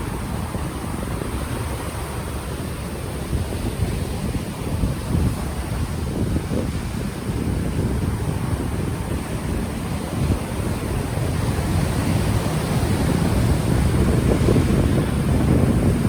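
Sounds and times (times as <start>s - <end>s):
ocean waves washing in: 0.0s - 16.0s
wind buffeting microphone: 0.0s - 16.0s.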